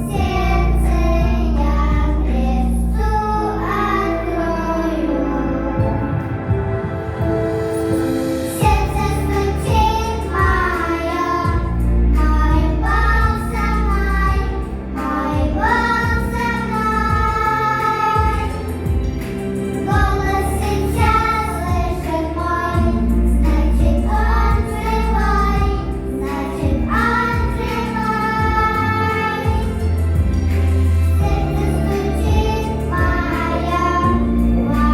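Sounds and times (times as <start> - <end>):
girls singing: 0.0 - 6.5, 8.5 - 34.9
backing track with heavy bass: 0.0 - 34.9.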